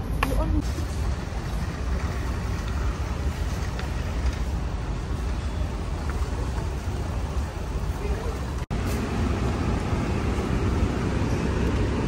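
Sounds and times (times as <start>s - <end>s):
warehouse store background rumble: 0.0s - 12.0s.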